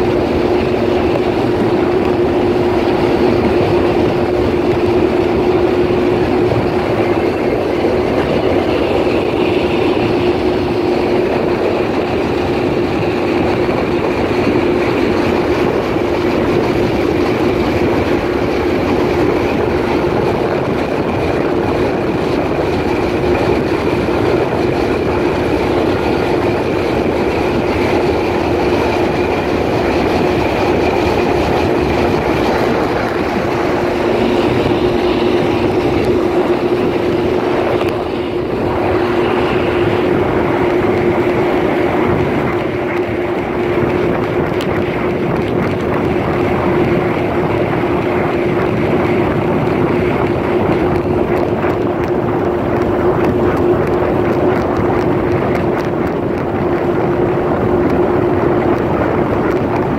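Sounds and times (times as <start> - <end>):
jet ski engine droning: 0.0 - 59.9
water rushing: 0.0 - 59.9
wind: 0.0 - 59.9.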